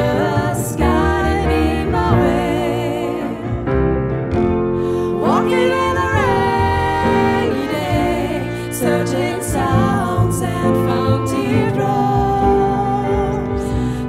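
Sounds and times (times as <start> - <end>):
woman singing: 0.0 - 3.6, 5.1 - 14.0
double bass: 0.0 - 14.0
grand piano: 0.0 - 14.0
guitar: 0.0 - 14.0.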